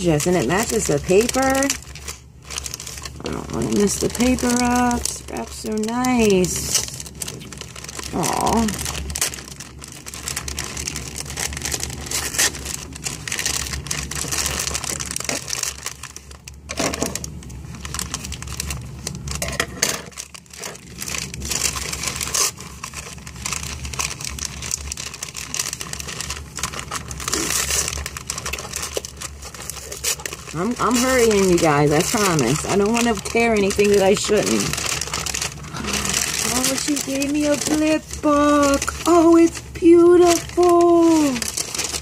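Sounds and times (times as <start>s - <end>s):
paper tearing: 0.0s - 42.0s
wrapping paper crinkling: 0.0s - 42.0s.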